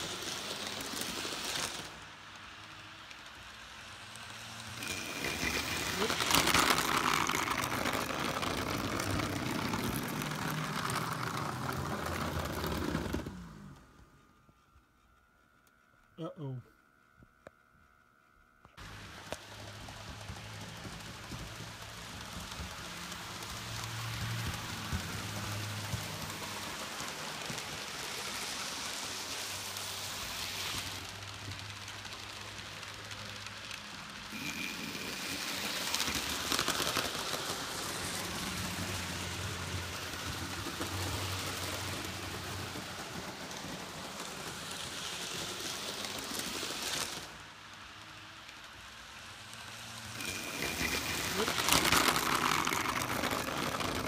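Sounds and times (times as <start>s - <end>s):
model train wheels rattling on track: 0.0s - 14.0s, 18.8s - 54.0s.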